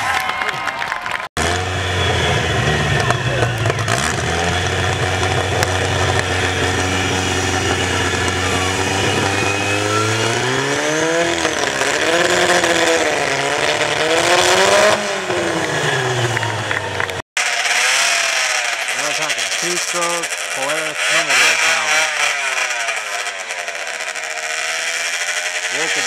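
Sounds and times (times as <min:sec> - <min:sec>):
oversized chainsaw engine revving: 0:01.2 - 0:26.0.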